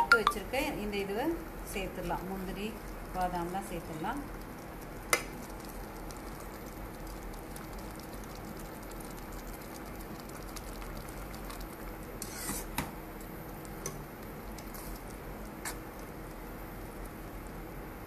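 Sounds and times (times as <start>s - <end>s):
syrup simmering: 0.9s - 18.0s.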